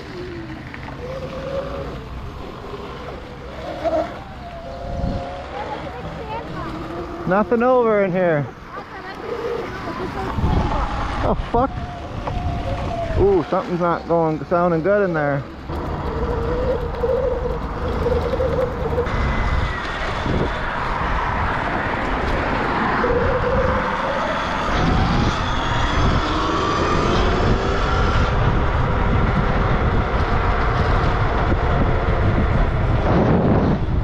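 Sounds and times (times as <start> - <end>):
tyre noise: 0.0 - 28.3
wind noise: 1.0 - 7.9, 9.3 - 14.0, 15.6 - 34.0.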